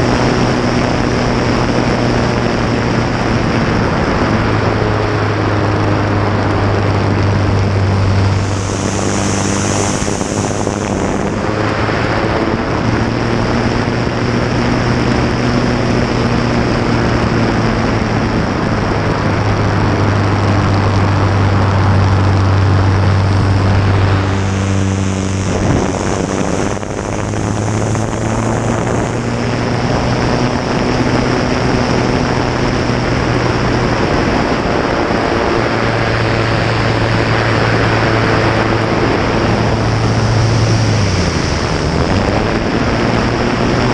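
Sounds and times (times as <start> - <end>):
aircraft piston engine and propeller: 0.0 - 43.9
airflow rushing on microphone: 0.0 - 43.9.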